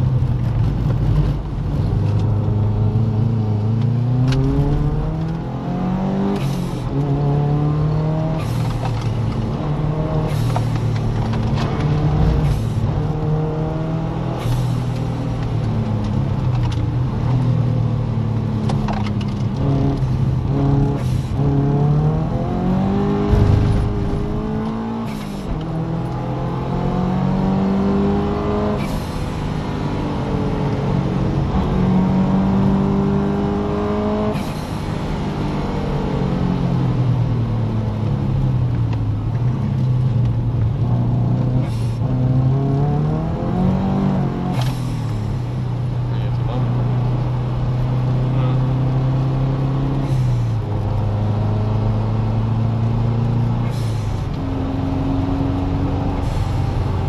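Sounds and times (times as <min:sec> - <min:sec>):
car engine revving through gears: 0:00.0 - 0:57.0.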